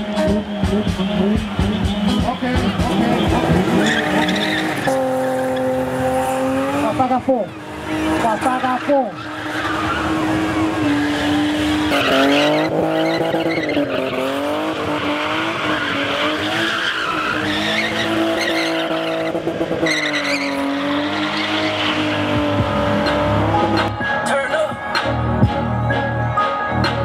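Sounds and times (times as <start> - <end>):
car engine at high revs: 0.0 - 24.0
tyres spinning and skidding: 0.0 - 24.0.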